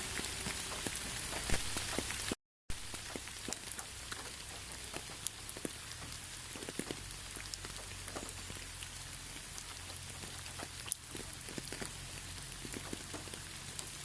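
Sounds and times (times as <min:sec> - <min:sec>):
raindrops tapping close by: 0:00.0 - 0:14.0
steady rain hiss: 0:00.0 - 0:14.0.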